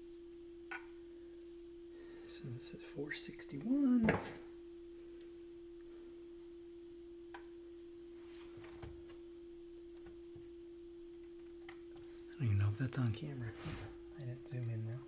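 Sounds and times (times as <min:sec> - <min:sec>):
faint pure tone: 0:00.0 - 0:15.0.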